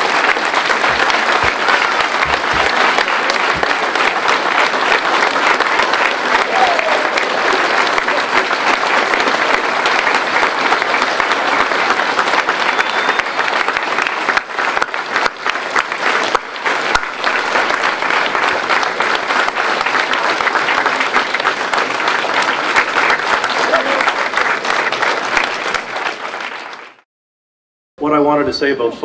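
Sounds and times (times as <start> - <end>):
crowd applauding: 0.0 - 27.1.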